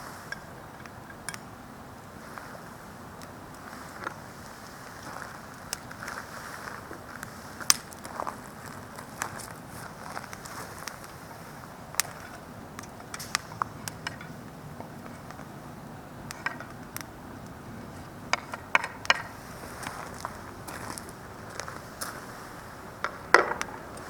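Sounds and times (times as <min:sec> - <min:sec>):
campfire crackling and popping: 0:00.4 - 0:24.0
fire hissing: 0:01.9 - 0:18.3, 0:18.9 - 0:24.0.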